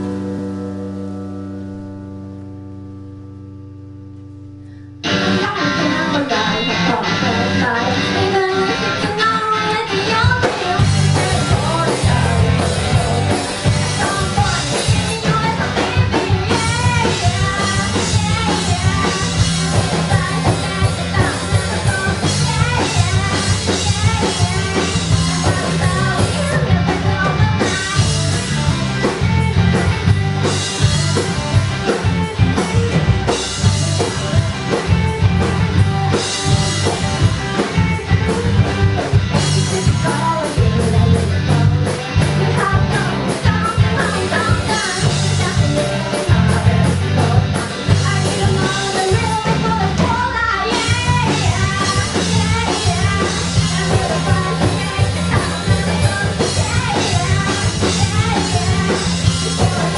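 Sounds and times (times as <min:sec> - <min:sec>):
rock band playing live: 0:00.0 - 0:59.9
person singing: 0:05.1 - 0:33.0, 0:34.2 - 0:59.9.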